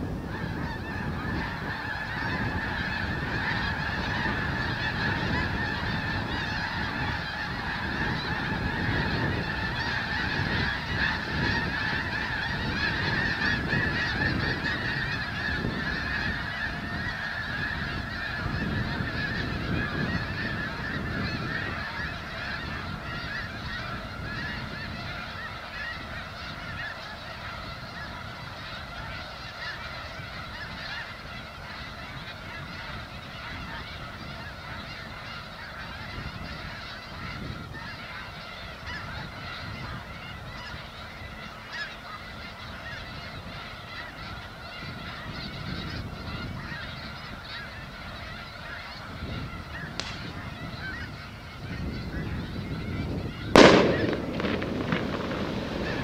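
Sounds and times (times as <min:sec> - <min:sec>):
flock of geese honking: 0:00.0 - 0:56.0.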